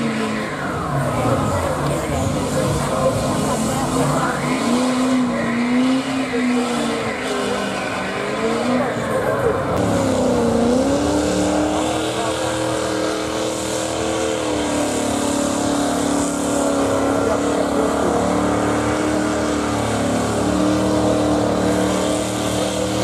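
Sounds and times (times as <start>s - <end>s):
truck engine running hard in mud: 0.0s - 23.0s.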